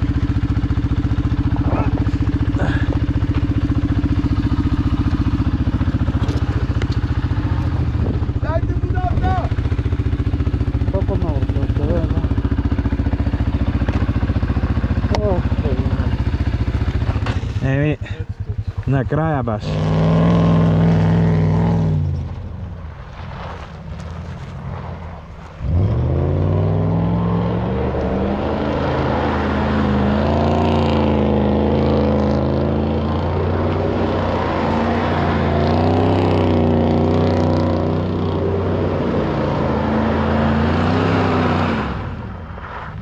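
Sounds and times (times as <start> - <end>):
vehicle engine revving: 0.0 - 22.6, 23.2 - 43.0.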